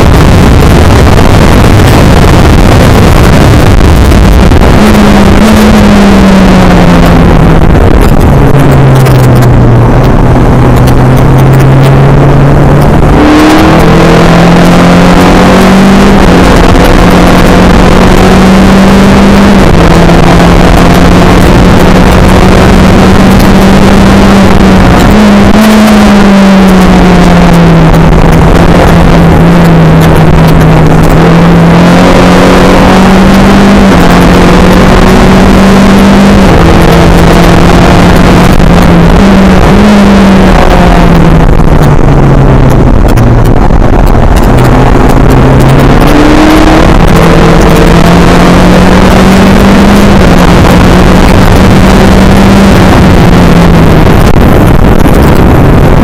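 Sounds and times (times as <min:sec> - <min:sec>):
race car engine revving: 0:00.0 - 0:56.0
road and wind noise: 0:00.0 - 0:56.0.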